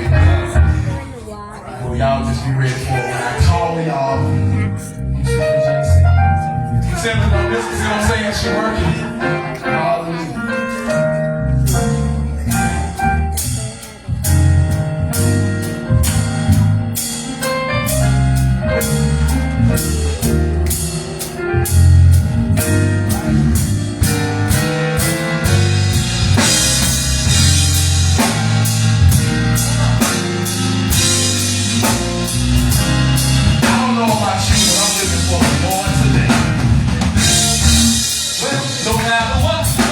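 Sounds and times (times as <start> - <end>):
drum kit beat: 0.0 - 1.1, 4.8 - 9.8, 10.4 - 39.9
bass notes: 0.0 - 39.9
held chords: 0.0 - 39.9.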